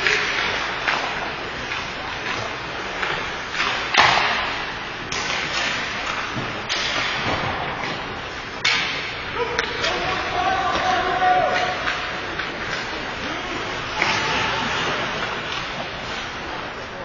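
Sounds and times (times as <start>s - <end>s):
sharp knocks echoing in rink: 0.0s - 17.0s.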